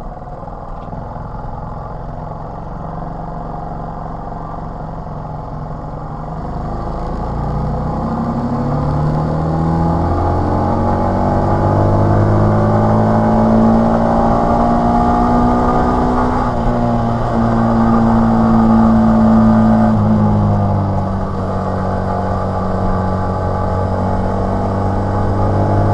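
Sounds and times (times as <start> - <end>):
moped engine running: 0.0 - 25.9.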